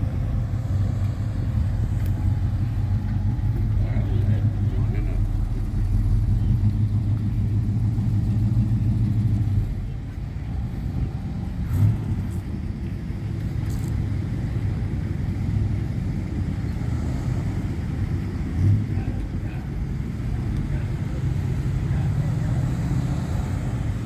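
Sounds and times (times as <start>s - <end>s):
vehicles passing low engine rumble: 0.0s - 24.0s.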